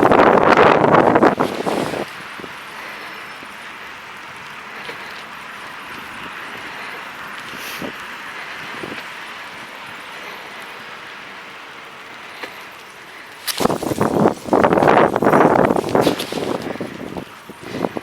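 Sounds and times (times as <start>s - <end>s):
bicycle tyres hissing on snow: 0.0s - 18.0s.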